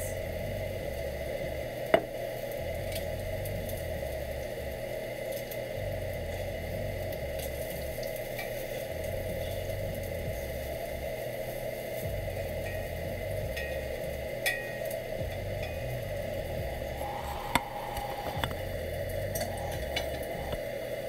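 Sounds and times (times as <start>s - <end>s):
mushrooms sizzling in a skillet: 0.1s - 21.0s
faint crackles: 0.8s - 21.0s.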